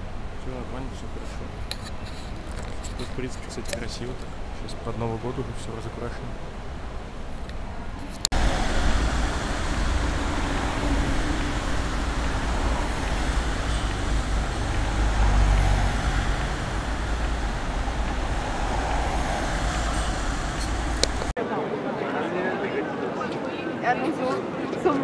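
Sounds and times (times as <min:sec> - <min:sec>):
cars driving past: 0:00.0 - 0:21.4.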